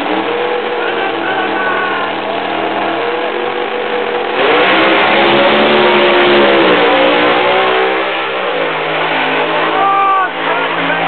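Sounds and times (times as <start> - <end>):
drag car engines at full throttle: 0.0 - 11.0.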